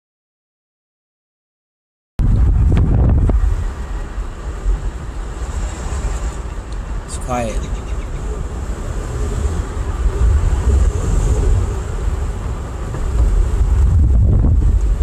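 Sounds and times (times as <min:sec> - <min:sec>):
heavy low rumble: 0:02.2 - 0:15.0
tyre road noise: 0:02.2 - 0:15.0
wind buffeting microphone: 0:02.2 - 0:15.0.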